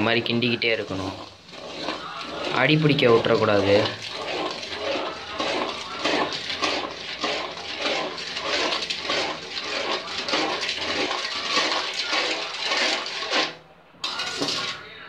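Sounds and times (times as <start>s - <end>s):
spoon stirring liquid in metal pan: 0.0s - 15.0s.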